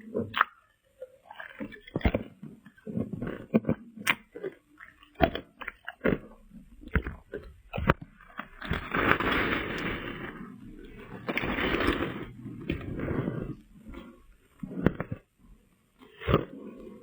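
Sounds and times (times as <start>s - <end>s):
ice cracking between teeth: 1.3s - 14.2s, 16.0s - 17.0s
chewing ice crunch: 1.3s - 15.2s.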